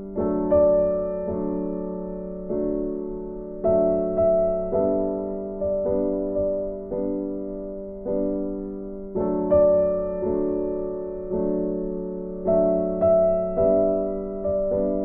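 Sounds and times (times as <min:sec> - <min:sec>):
slow piano-like keyboard music: 0:00.0 - 0:15.0.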